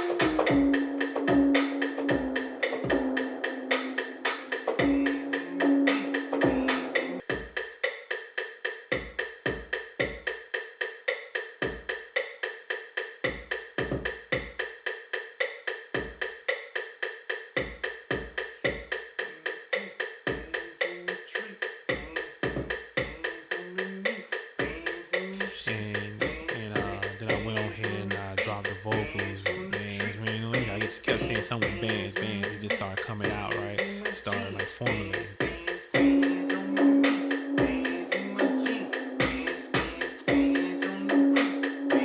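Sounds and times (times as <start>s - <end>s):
woodblock-like click pattern: 0.0s - 42.0s.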